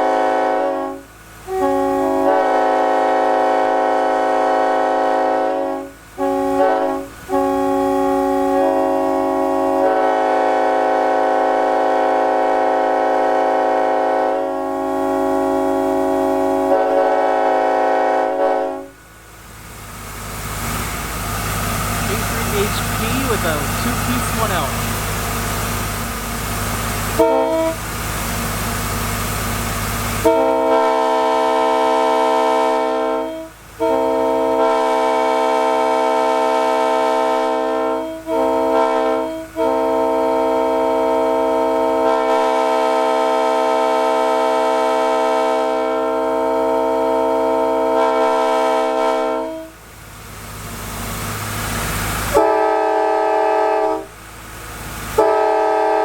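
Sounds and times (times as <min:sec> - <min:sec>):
locomotive air horn blasts: 0:00.0 - 0:19.0, 0:21.5 - 0:27.9, 0:30.1 - 0:49.8, 0:52.3 - 0:54.2, 0:55.1 - 0:56.0.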